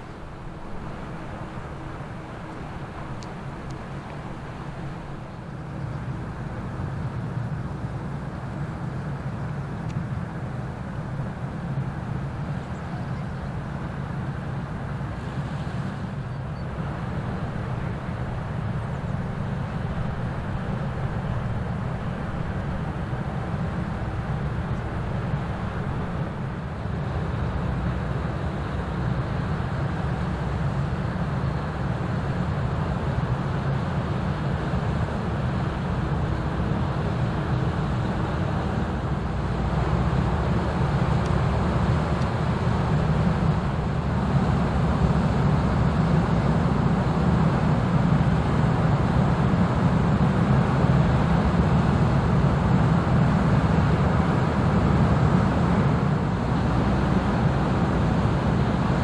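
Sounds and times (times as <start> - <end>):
ship diesel engine drone: 0.0 - 59.0.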